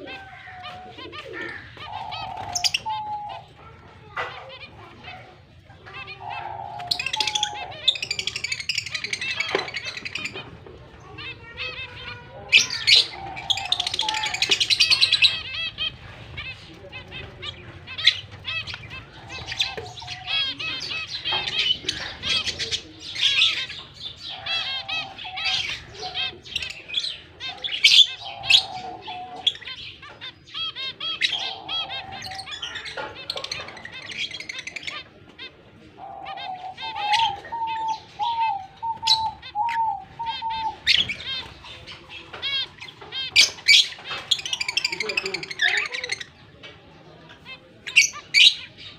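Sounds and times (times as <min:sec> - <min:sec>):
lovebirds chirping: 0:00.0 - 0:48.9.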